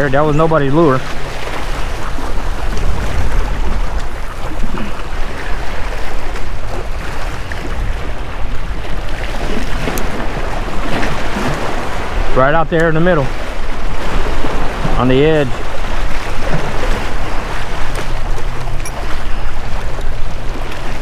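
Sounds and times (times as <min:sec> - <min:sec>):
waves splashing against rocks: 0:00.0 - 0:21.0
wind rumble on microphone: 0:00.0 - 0:21.0.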